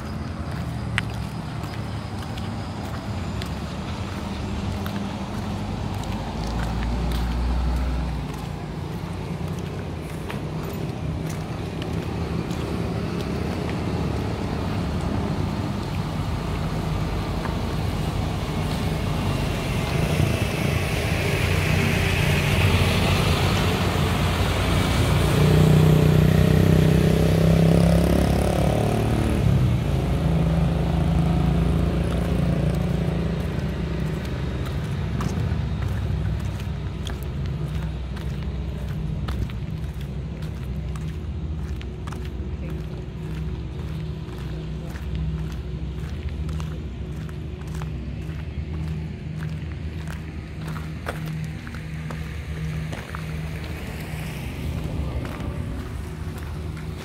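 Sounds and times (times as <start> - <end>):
truck driving past: 0.0 - 57.0.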